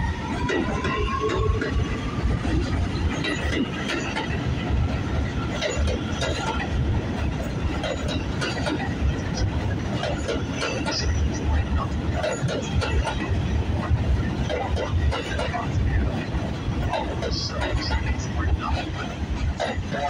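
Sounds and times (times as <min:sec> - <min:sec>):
rumble of train wheels on rail: 0:00.0 - 0:20.0
wheels clicking over rail joints: 0:00.0 - 0:20.0.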